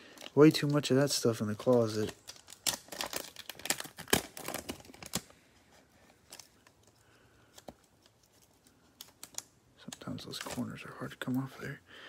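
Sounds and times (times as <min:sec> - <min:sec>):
plastic wrapper crinkling: 0:00.1 - 0:11.4.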